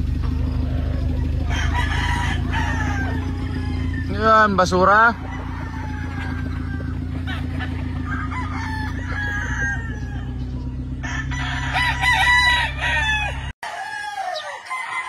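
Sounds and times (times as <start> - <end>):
low mechanical hum: 0.0 - 13.5
chickens clucking: 0.0 - 15.0
roosters crowing: 0.0 - 15.0.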